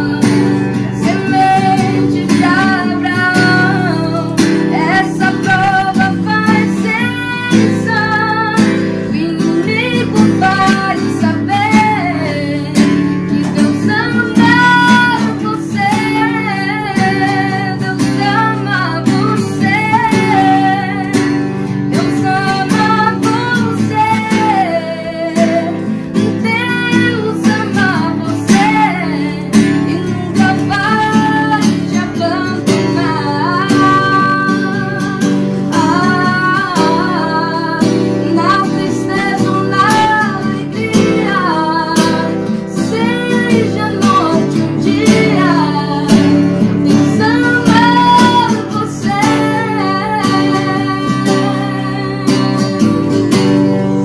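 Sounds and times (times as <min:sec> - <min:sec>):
acoustic guitar strumming: 0:00.0 - 0:54.0
woman singing a hymn: 0:00.0 - 0:54.0.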